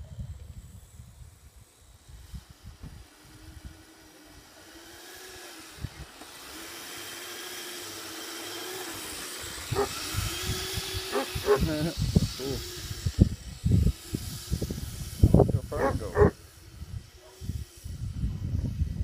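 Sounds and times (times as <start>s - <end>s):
toy vehicle motor whining: 0.0s - 19.0s.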